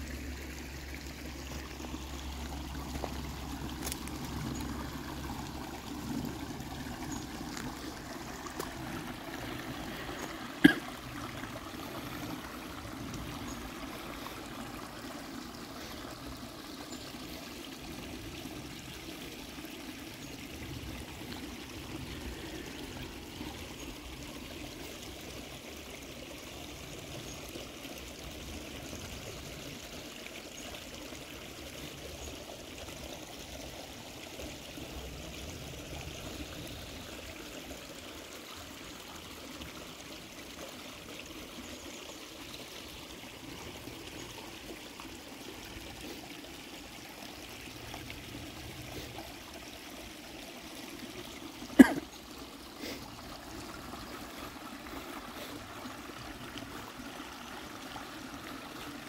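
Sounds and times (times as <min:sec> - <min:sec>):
creek water flowing over rocks: 0:00.0 - 0:59.0.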